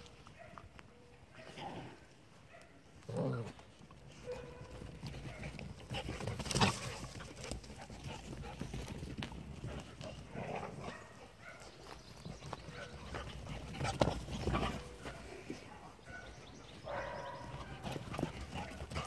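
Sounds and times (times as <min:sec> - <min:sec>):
dogs scuffling on dirt: 0:03.0 - 0:19.0.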